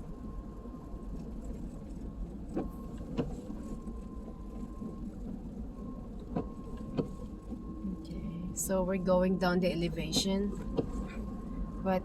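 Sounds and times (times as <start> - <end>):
vehicle rumbling on dirt road: 0.0 - 12.0.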